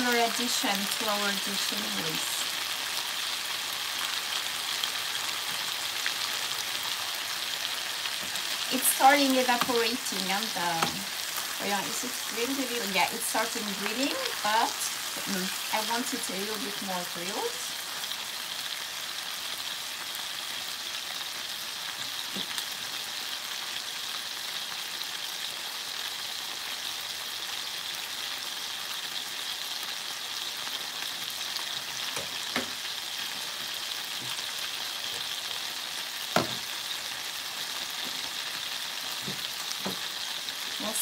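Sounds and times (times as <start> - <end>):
meat sizzling in a frying pan: 0.0 - 41.0.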